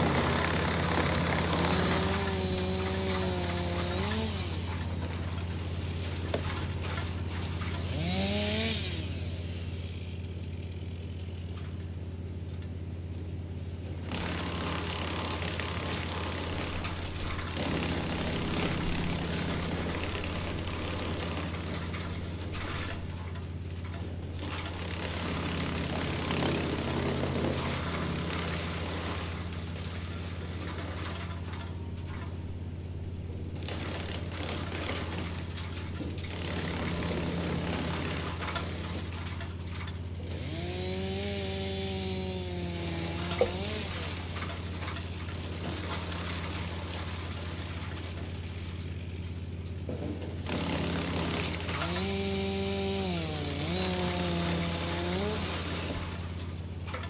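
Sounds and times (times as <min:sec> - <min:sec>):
wood chipper engine hum: 0:00.0 - 0:57.0
wood chipper grinding wood: 0:00.0 - 0:57.0.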